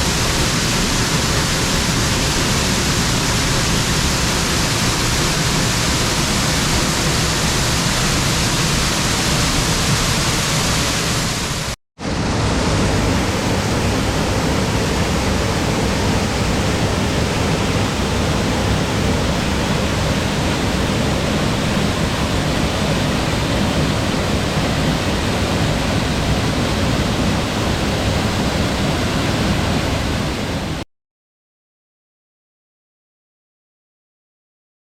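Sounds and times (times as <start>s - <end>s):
waterfall rushing: 0.0s - 30.8s.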